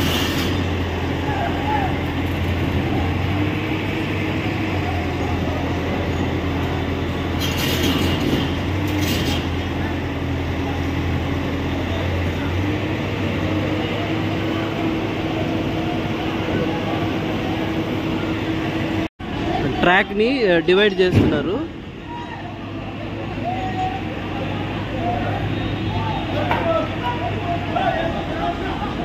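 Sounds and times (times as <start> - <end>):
diesel engines droning: 0.0 - 29.0
crowd chatter: 1.0 - 7.3, 8.7 - 29.0.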